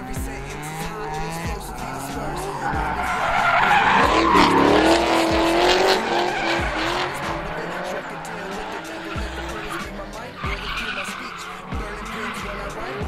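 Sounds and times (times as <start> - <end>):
car engine revving hard: 0.0 - 13.0
tyres squealing: 0.0 - 13.0.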